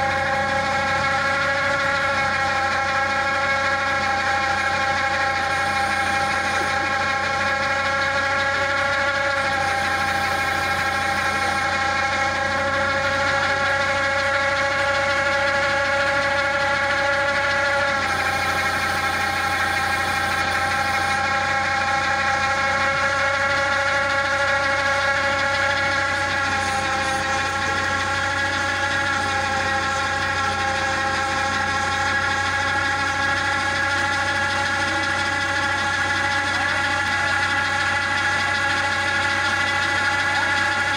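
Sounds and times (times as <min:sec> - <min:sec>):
auger boring into soil: 0:00.0 - 0:40.9
steady whine: 0:00.0 - 0:40.9
tractor running under load: 0:00.0 - 0:40.9.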